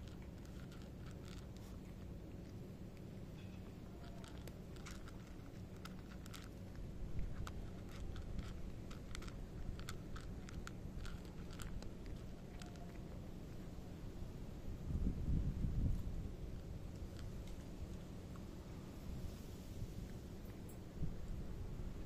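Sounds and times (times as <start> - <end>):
cat crunching dry kibble: 0.0 - 22.0.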